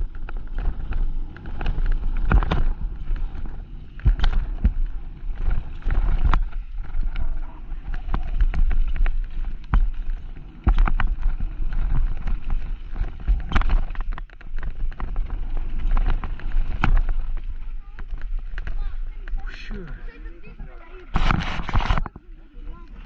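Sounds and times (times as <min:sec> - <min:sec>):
bike clattering over bumps: 0:00.0 - 0:19.4
wind rumbling on microphone: 0:00.0 - 0:23.0.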